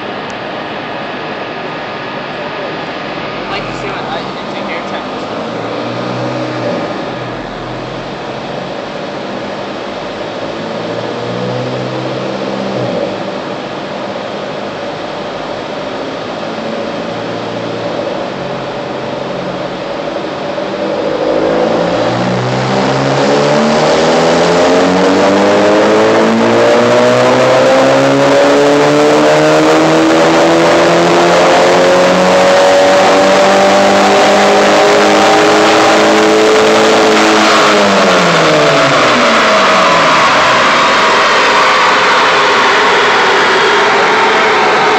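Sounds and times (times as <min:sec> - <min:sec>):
car engine revving on a dyno: 0:00.0 - 0:44.9.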